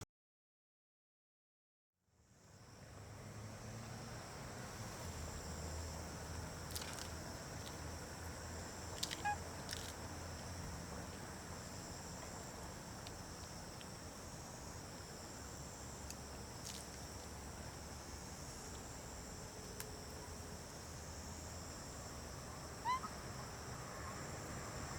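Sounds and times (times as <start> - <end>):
insects buzzing: 2.5 - 24.9.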